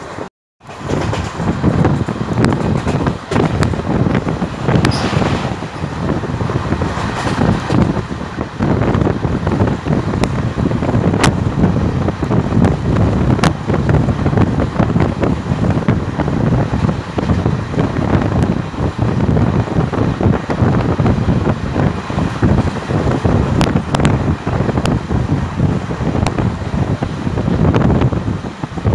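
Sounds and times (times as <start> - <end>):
train wheels rumbling on track: 0.0 - 28.9
wind buffeting microphone: 0.0 - 28.9.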